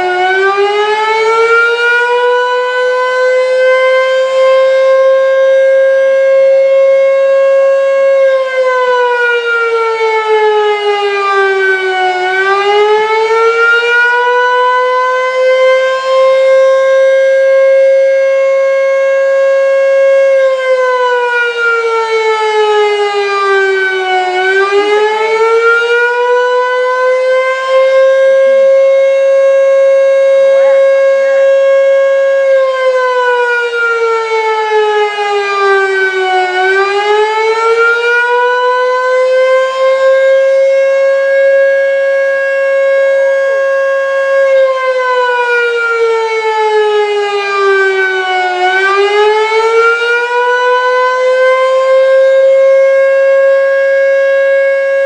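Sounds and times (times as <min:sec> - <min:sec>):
civil defense siren wailing: 0:00.0 - 0:55.0.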